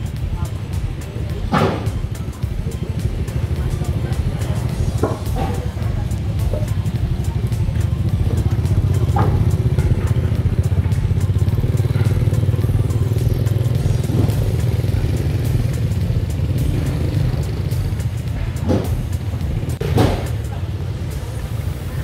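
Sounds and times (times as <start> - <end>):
motorbike engine idling: 0.0 - 22.0.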